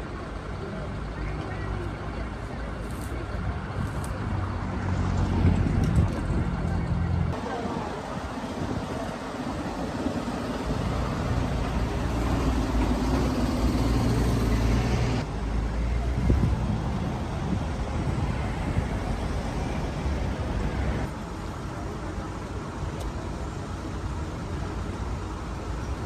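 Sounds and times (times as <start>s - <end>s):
engine rumble: 0.0s - 26.0s
outdoor noise: 0.0s - 26.0s.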